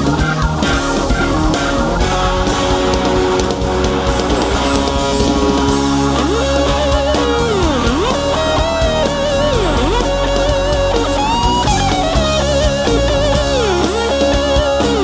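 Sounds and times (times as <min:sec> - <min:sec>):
drums: 0:00.0 - 0:15.0
electric guitar with pitch bends: 0:00.0 - 0:15.0.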